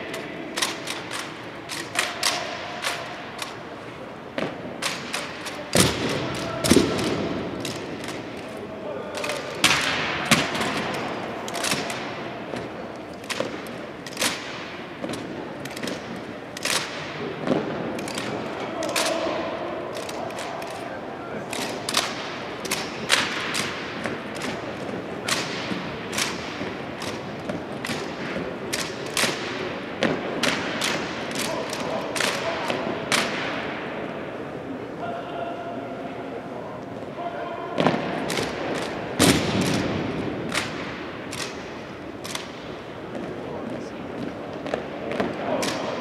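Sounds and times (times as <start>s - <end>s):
rifles slapping and knocking: 0.1s - 3.8s, 4.4s - 33.5s, 37.8s - 46.0s.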